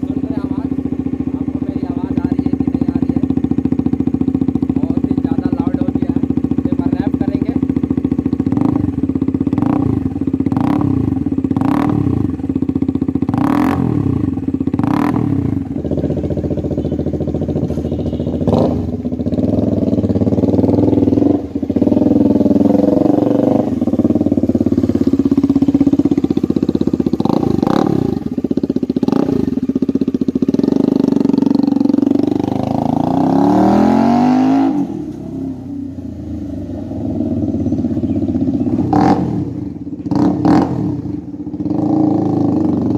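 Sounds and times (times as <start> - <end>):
motorcycle engine idling: 0.0 - 42.9
motorcycle throttle blips: 0.0 - 42.9.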